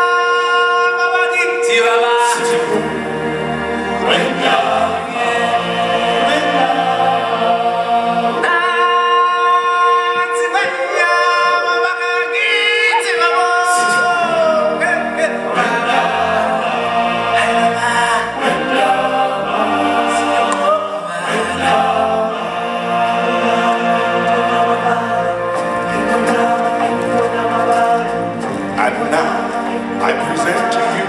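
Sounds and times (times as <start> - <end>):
choir singing: 0.0 - 31.0
low musical accompaniment: 0.0 - 31.0.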